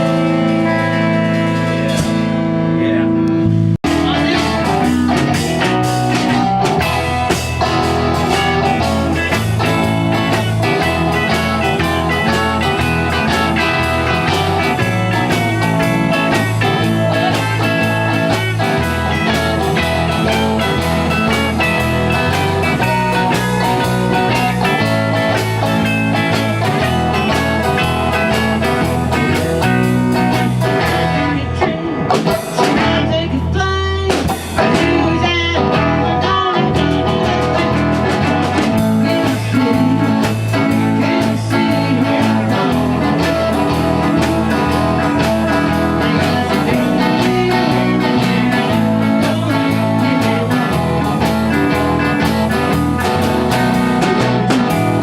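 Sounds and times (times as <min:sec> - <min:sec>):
bass line: 0:00.0 - 0:55.0
drums: 0:00.0 - 0:55.0
guitar: 0:00.0 - 0:55.0.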